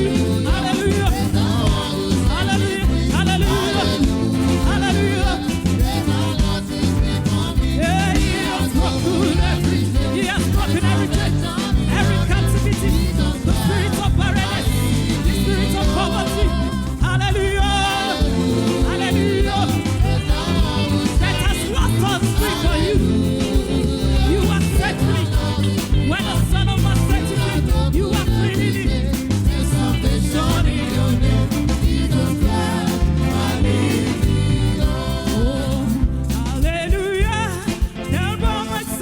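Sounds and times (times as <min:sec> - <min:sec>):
gospel singing over a band: 0:00.0 - 0:39.0.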